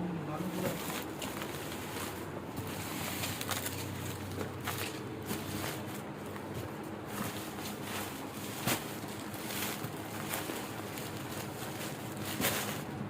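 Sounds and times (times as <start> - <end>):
packaging rustling and crinkling: 0.5 - 13.0.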